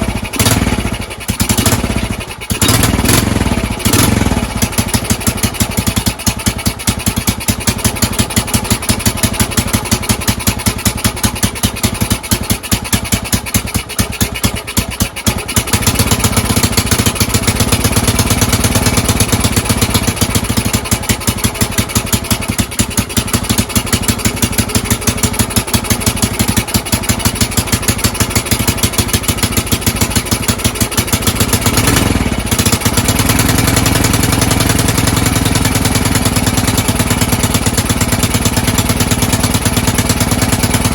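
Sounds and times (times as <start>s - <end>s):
motorcycle engine idling roughly: 0.0s - 40.9s.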